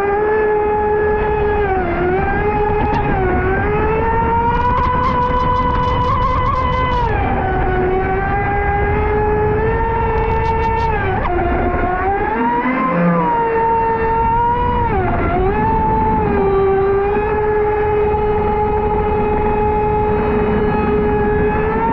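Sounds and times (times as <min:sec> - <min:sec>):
electric motor whining: 0:00.0 - 0:21.9
rush of noise: 0:00.7 - 0:21.9.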